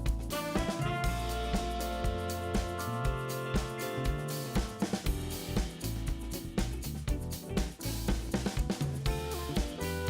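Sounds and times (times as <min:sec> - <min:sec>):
band music: 0:00.0 - 0:10.0
kick drum beat: 0:00.0 - 0:10.0.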